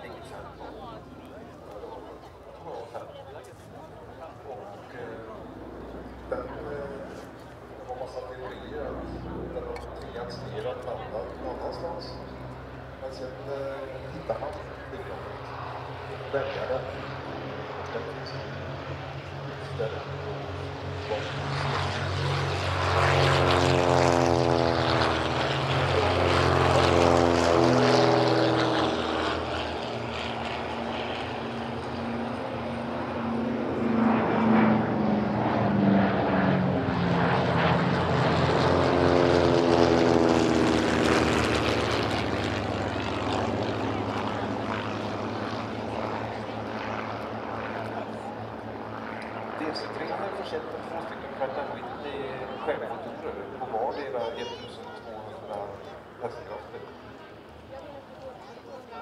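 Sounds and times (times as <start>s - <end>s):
propeller plane droning past: 0.0s - 59.0s.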